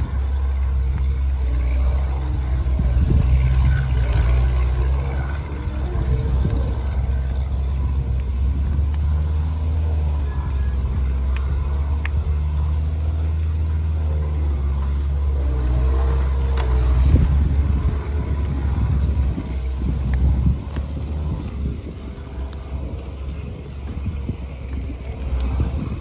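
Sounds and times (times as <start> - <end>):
bonfire flame rumble: 0.0 - 26.0
fire crackles and pops: 0.0 - 26.0.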